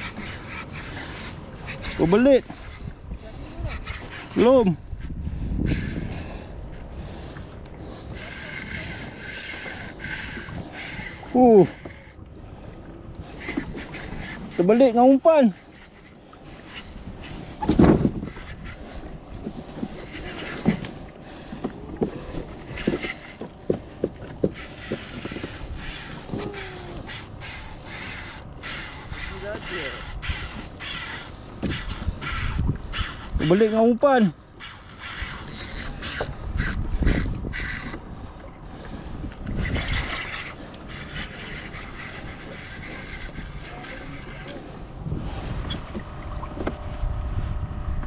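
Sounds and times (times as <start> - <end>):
fishing rod and reel clicks: 0.0 - 3.0, 3.6 - 12.3, 13.1 - 21.0, 22.3 - 23.7, 24.4 - 38.1, 39.2 - 44.7
wind rumbling on microphone: 0.0 - 14.6, 15.8 - 34.0, 35.0 - 48.0.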